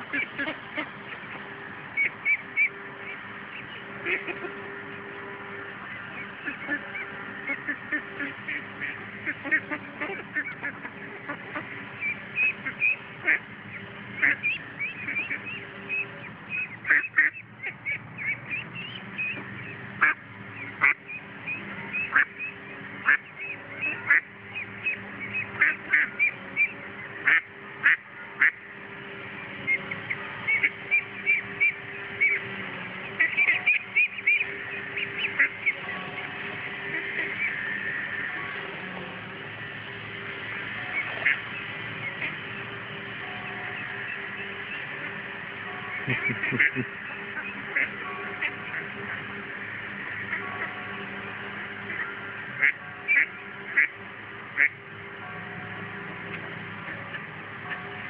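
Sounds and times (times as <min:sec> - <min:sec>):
ducks quacking: 0:00.0 - 0:58.0.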